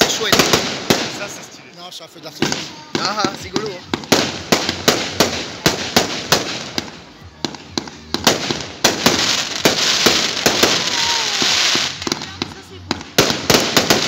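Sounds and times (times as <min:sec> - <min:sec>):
firework bangs: 0:00.0 - 0:14.0
firework crackling hiss: 0:00.0 - 0:14.0.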